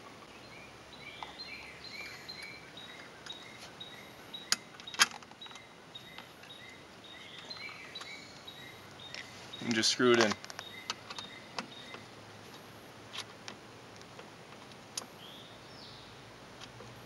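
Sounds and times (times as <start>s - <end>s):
outdoor ambience: 0.0s - 17.0s.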